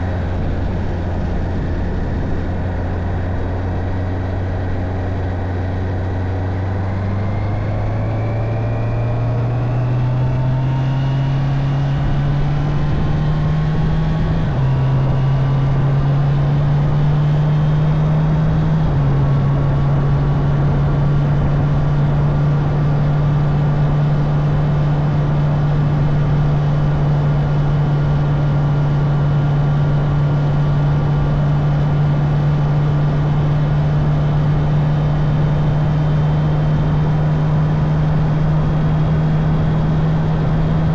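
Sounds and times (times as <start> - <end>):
motorcycle engine accelerating: 0.0 - 40.9
steady rushing noise: 0.0 - 40.9.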